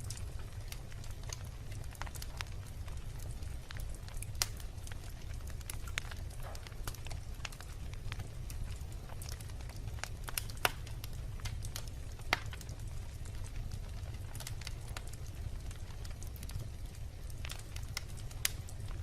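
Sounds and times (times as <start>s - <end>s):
burning wood crackling and popping: 0.0s - 19.0s
campfire flame rumble: 0.0s - 19.0s.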